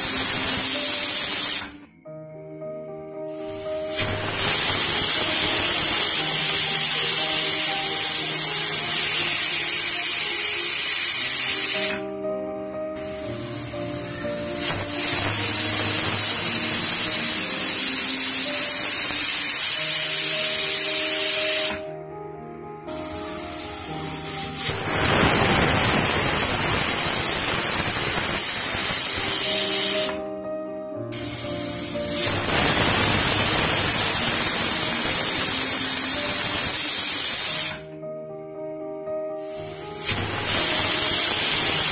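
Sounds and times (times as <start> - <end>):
pressure cooker hissing steam: 0.0 - 1.9, 3.2 - 12.2, 12.9 - 22.0, 22.9 - 30.3, 31.1 - 37.9, 39.4 - 41.9
music: 0.0 - 41.9.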